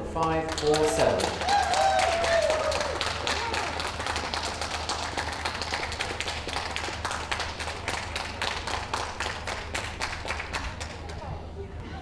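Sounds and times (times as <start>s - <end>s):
spectators clapping: 0.2s - 11.3s.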